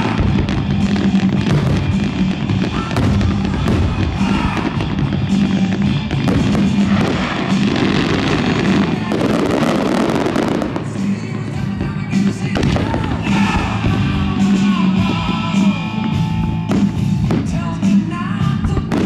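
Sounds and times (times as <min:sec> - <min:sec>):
fireworks bursting and crackling: 0:00.0 - 0:19.0
loud music soundtrack: 0:00.0 - 0:19.0.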